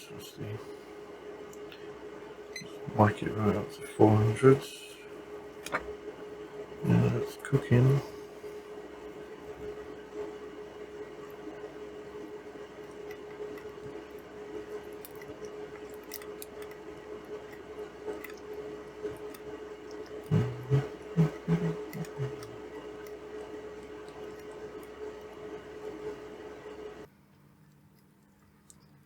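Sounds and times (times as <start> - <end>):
electrical hum: 0.0 - 27.2.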